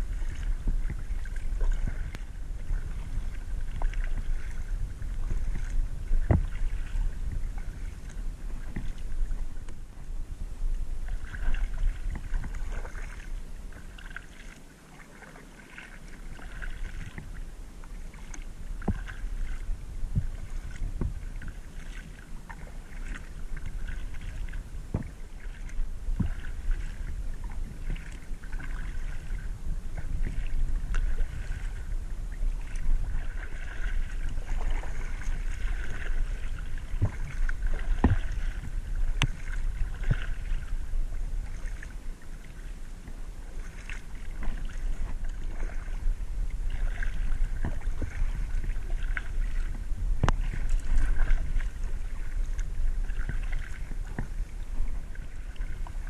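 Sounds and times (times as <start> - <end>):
kayak paddle splashing: 0.0 - 56.0.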